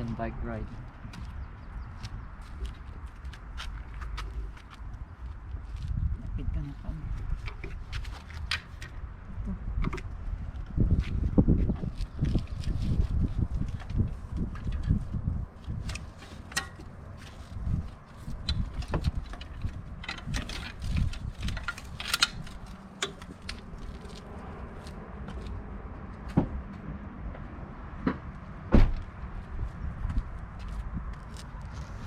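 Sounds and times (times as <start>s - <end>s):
gusty low rumble: 0.0s - 16.2s, 16.8s - 32.0s.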